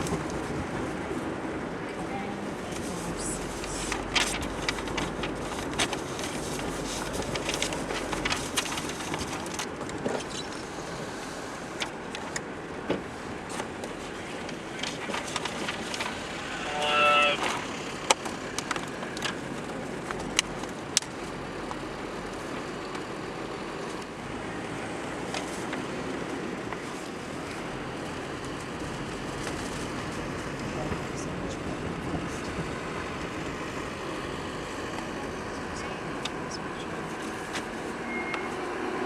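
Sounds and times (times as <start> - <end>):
engine and tyre rumble: 0.0 - 39.0.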